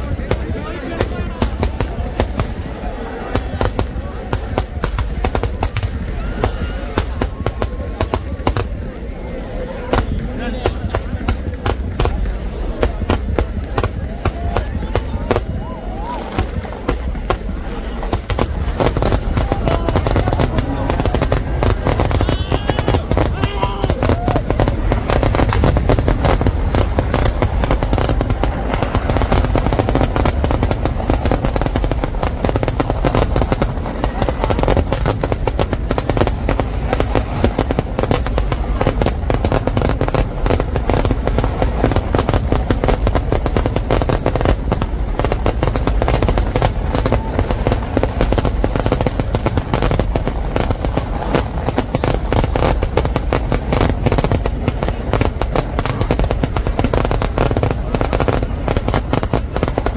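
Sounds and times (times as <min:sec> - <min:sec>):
firecracker barrage: 0:00.0 - 0:59.9.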